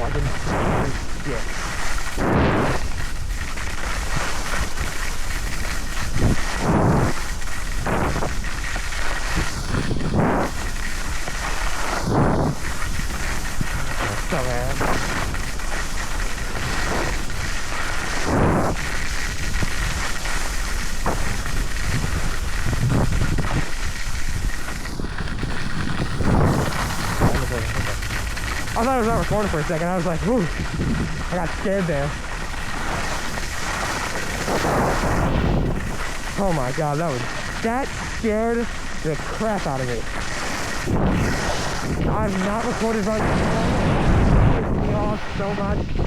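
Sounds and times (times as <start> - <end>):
skis hissing on snow: 0.0 - 46.0
wind rushing over microphone: 0.0 - 46.0.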